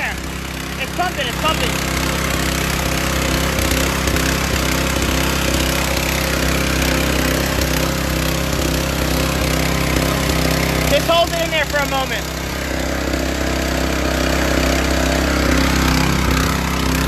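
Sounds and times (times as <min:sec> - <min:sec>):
engine-driven pump running: 0:00.0 - 0:17.0.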